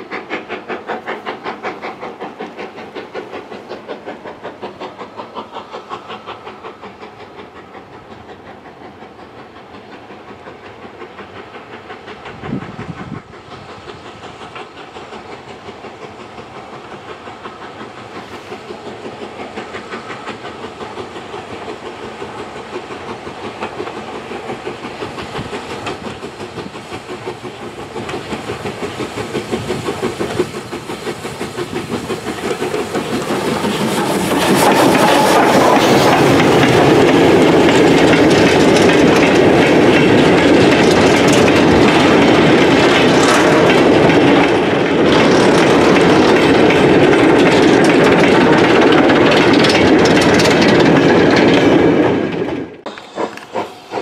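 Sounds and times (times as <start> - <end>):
steam locomotive exhaust beating: 0.0 - 54.0
train wheels clickety-clack: 0.0 - 54.0.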